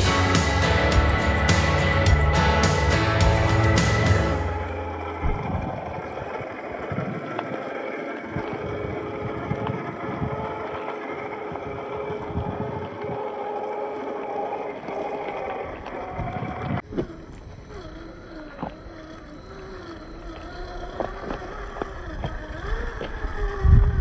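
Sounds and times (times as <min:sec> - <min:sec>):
electric motor whining: 0:00.0 - 0:24.0.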